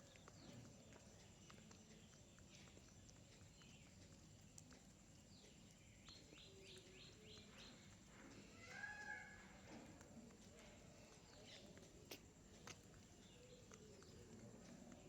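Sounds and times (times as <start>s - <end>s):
small birds chirping: 0.0s - 15.0s
soft ticks: 0.0s - 15.0s.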